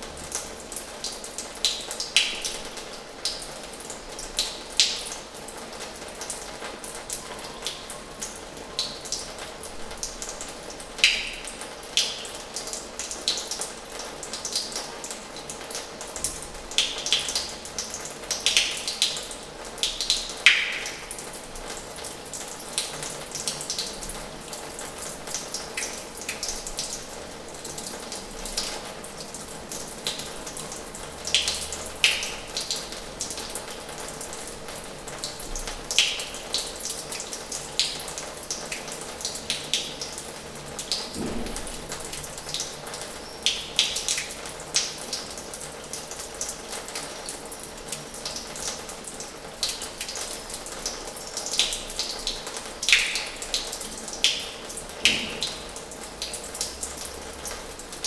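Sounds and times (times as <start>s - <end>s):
water splashing and dripping: 0.0s - 58.0s.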